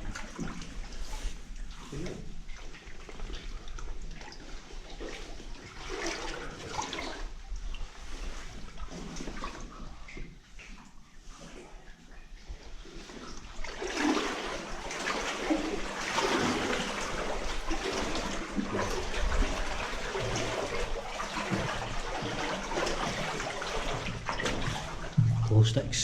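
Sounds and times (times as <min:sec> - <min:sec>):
water splashing and running: 0:00.0 - 0:26.0.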